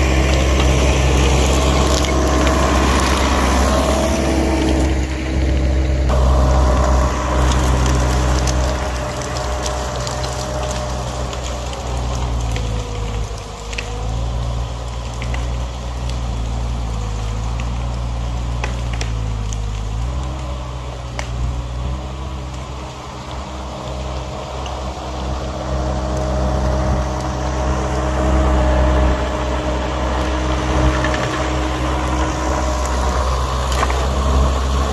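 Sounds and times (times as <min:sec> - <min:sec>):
branches snapping: 0:00.0 - 0:34.9
skid steer engine running: 0:00.0 - 0:34.9.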